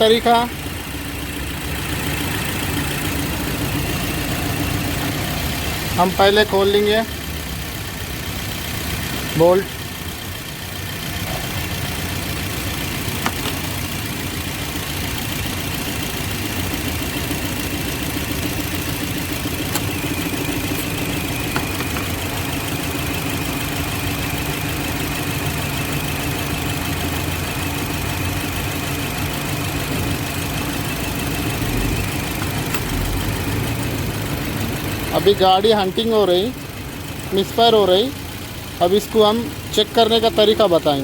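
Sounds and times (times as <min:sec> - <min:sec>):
car engine idling and misfiring: 0:00.0 - 0:41.0.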